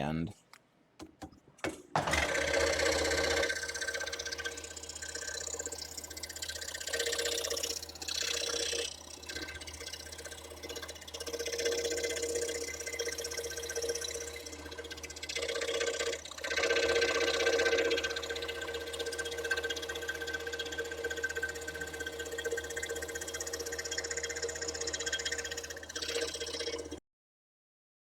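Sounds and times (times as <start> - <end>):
scroll saw cutting wood: 0.4 - 27.0.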